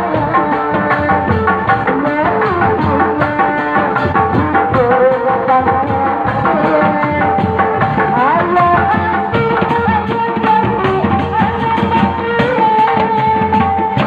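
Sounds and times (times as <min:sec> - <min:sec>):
continuous drumming: 0:00.0 - 0:14.0.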